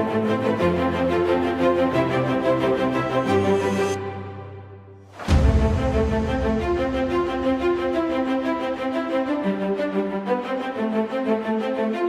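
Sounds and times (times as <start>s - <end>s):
background music held notes: 0.0s - 12.0s.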